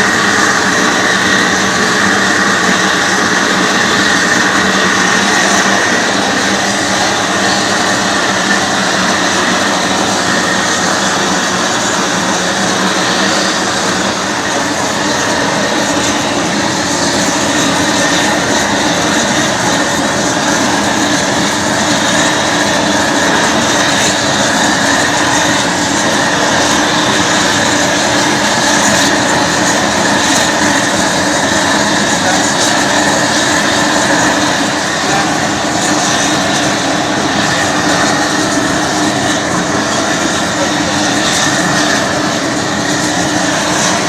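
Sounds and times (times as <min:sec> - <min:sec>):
gas torch flame roaring: 0:00.0 - 0:44.0.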